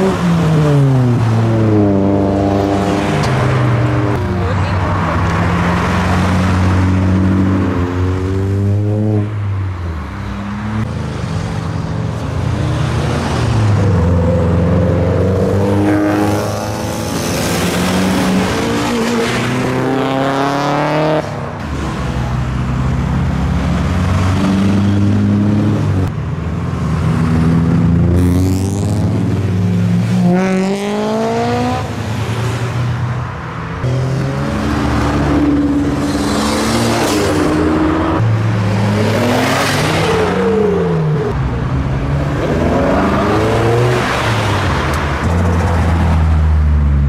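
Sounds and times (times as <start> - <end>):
cars accelerating hard: 0.0 - 11.6, 12.2 - 26.1, 26.9 - 33.0, 33.8 - 47.0.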